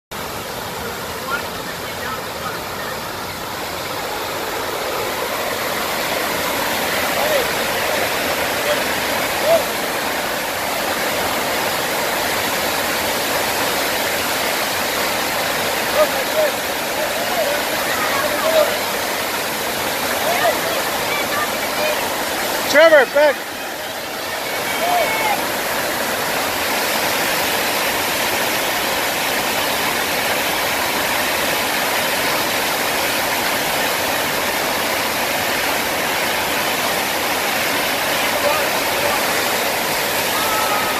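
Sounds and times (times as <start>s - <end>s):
rushing water: 0.1s - 40.9s.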